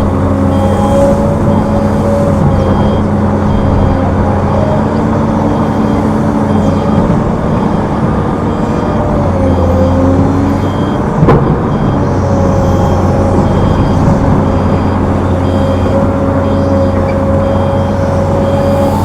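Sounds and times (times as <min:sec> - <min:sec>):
heavy diesel machinery running: 0:00.0 - 0:19.0
reversing alarm beeping: 0:00.0 - 0:19.0.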